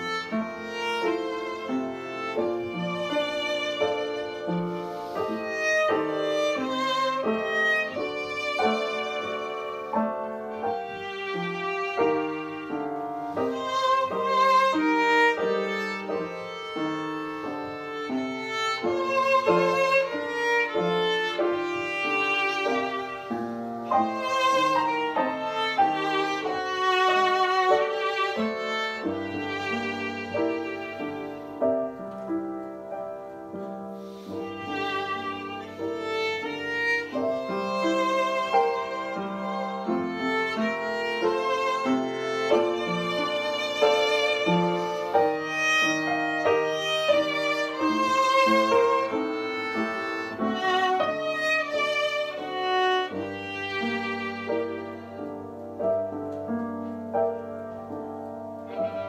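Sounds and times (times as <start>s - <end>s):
violin playing short bowed notes: 0.0s - 31.7s, 34.0s - 55.2s, 58.7s - 59.0s
piano accompaniment: 0.0s - 59.0s.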